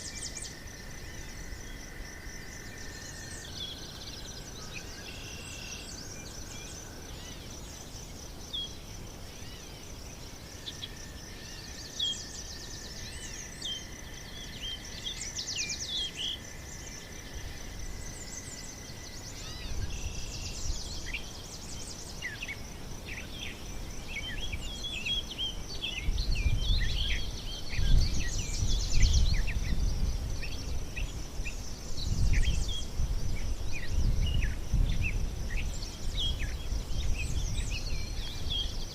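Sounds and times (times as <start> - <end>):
insects buzzing: 0.0 - 38.9
small birds chirping: 2.7 - 38.9.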